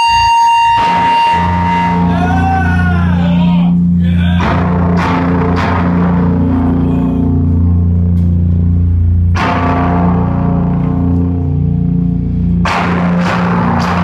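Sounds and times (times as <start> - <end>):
cymbal crash: 0.0 - 14.0
heavy guitar and bass chords: 0.0 - 14.0.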